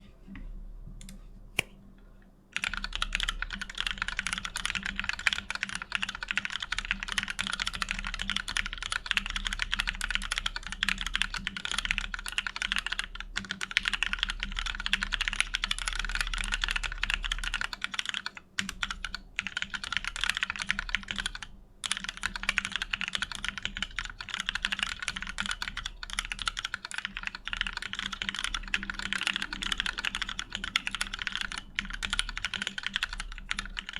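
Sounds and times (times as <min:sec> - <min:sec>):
mechanical keyboard typing: 0:02.6 - 0:33.9.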